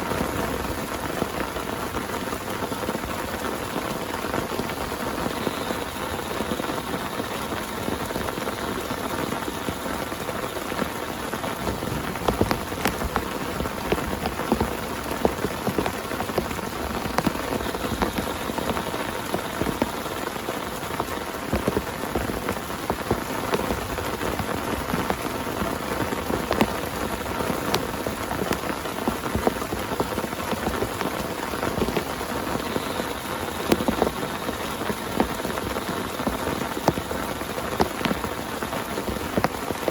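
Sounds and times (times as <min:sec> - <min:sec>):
heavy rain hissing on a tent: 0:00.0 - 0:39.9
raindrops ticking sharply: 0:00.0 - 0:39.9.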